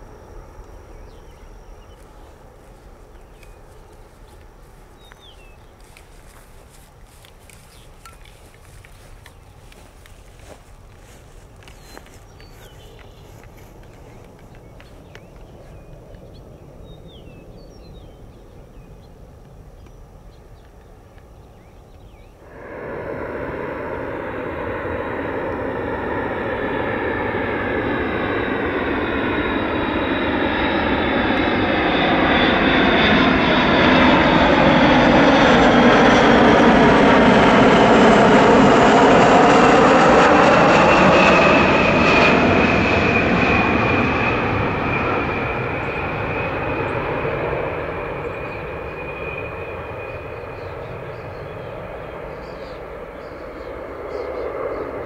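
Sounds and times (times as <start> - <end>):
high jet engine whine: 0.0 - 55.0
jet aircraft flying past: 0.0 - 55.0.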